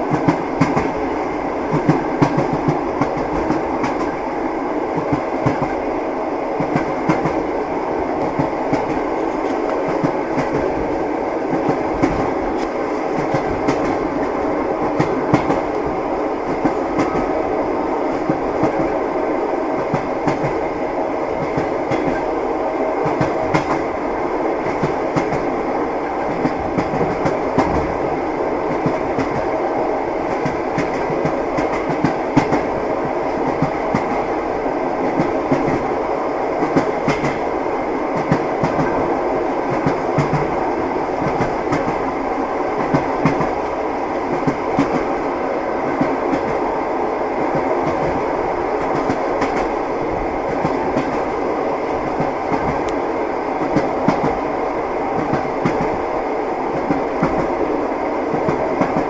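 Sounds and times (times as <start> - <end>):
train wheels clacking over rails: 0.0 - 6.0, 6.6 - 17.4, 18.0 - 54.5, 55.1 - 57.6, 58.3 - 59.0
train rolling rumble: 0.0 - 59.0.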